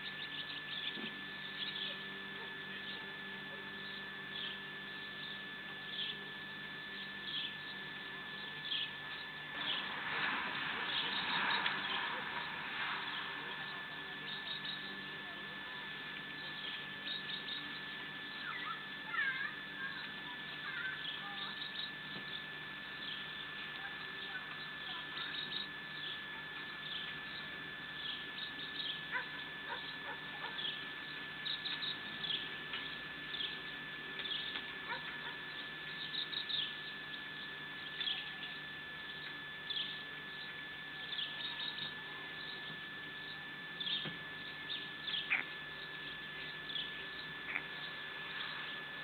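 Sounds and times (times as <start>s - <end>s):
small birds chirping: 0.0s - 10.0s, 10.6s - 49.0s
high electronic whine: 0.0s - 49.0s.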